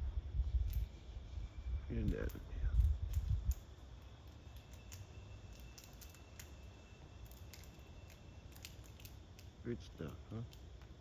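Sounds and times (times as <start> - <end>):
squirrel gnawing a peanut shell: 2.0 - 11.0.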